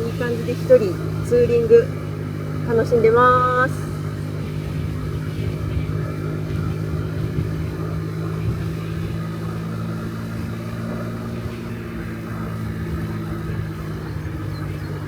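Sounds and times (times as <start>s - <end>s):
scooter engine running: 0.0s - 15.0s
wind rumbling on microphone: 0.0s - 15.0s.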